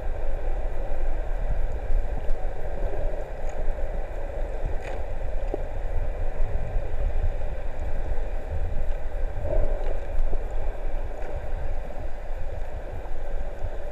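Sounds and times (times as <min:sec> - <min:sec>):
underwater rumble of moving water: 0:00.0 - 0:13.9.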